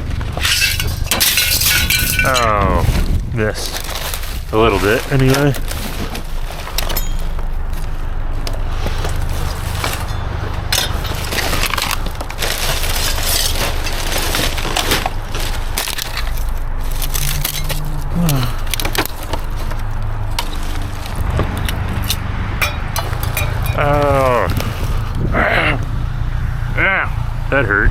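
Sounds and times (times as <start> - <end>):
debris crunching and clinking: 0.0 - 25.2
steady low rumble: 0.0 - 27.9.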